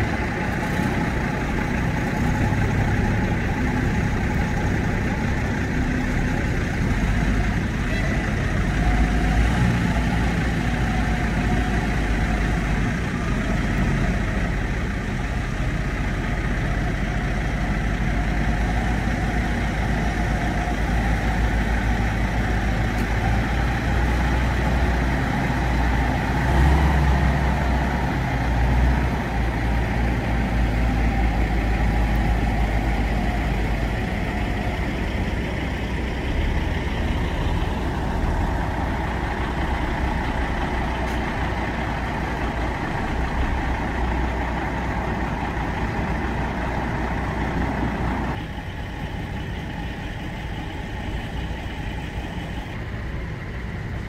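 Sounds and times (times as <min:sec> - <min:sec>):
heavy diesel truck driving past: 0:00.0 - 0:54.0.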